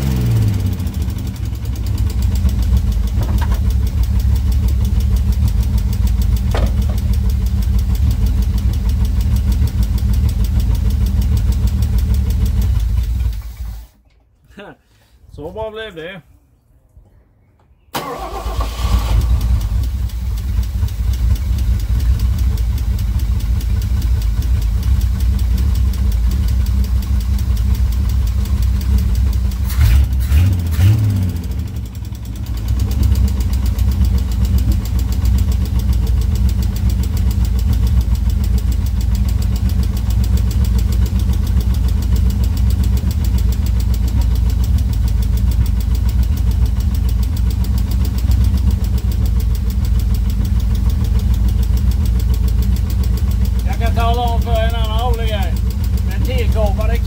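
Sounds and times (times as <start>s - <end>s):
car engine idling: 0.0s - 13.9s, 18.0s - 57.0s.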